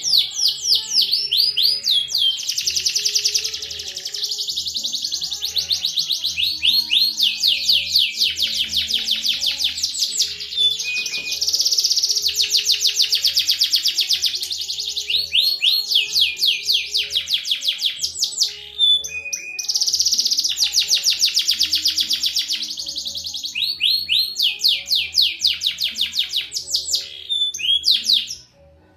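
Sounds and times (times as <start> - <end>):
canary singing trills: 0.0 - 28.8.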